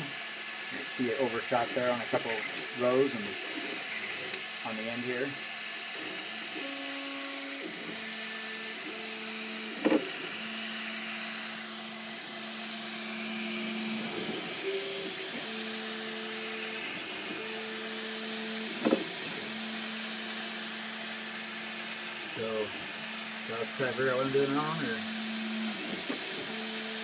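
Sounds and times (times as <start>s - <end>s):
stepper motors whining: 0.0s - 27.0s.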